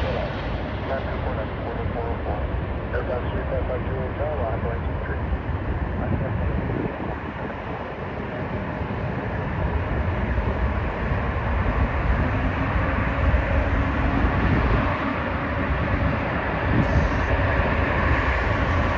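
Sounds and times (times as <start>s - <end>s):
jet engine roar: 0.0s - 18.9s.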